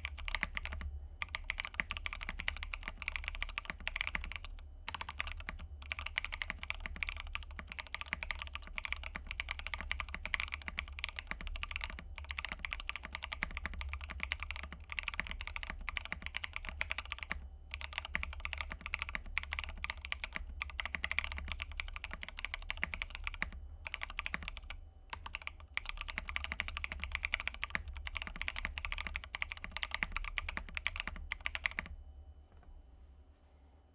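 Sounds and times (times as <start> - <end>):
mechanical keyboard typing: 0.0 - 32.0.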